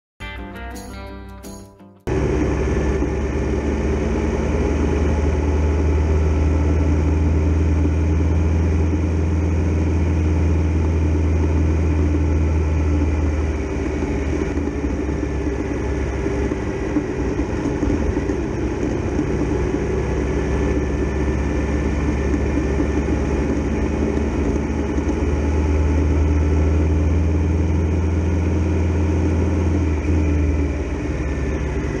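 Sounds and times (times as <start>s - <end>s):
motorcycle engine running: 2.1s - 32.0s.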